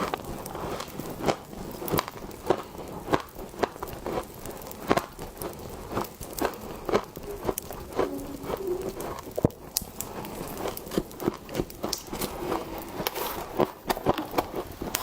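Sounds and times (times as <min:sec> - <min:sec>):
frost being chewed: 0:00.0 - 0:15.0.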